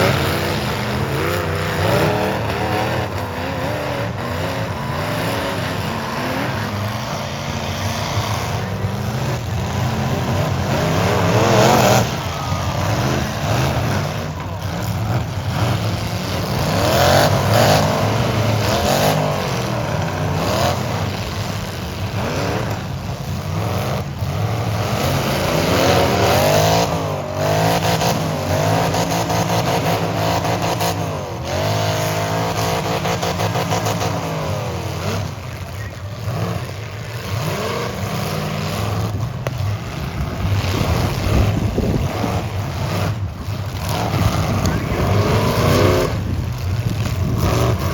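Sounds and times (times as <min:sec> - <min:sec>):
car engines revving hard: 0:00.0 - 0:47.9.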